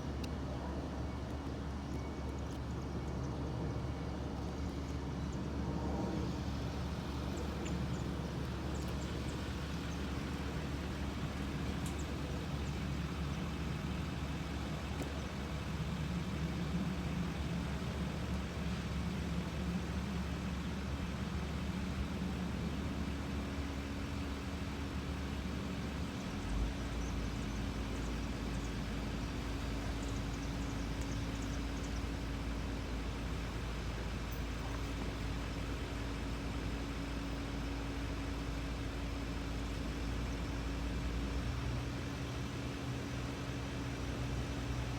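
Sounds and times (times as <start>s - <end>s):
vehicle engines rumbling: 0.0s - 44.9s.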